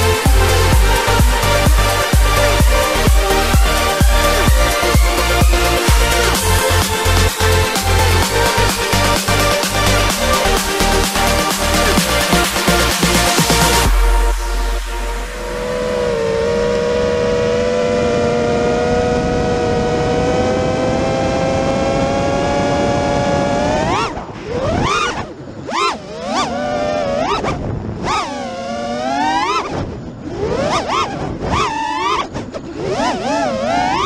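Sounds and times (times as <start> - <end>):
drone propellers whining: 0.0 - 34.0.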